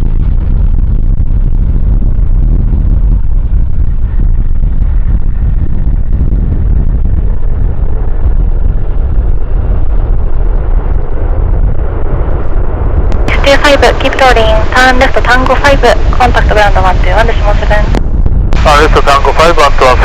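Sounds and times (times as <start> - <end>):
jet airliner rumble: 0.0 - 20.0
wind buffeting microphone: 0.0 - 20.0.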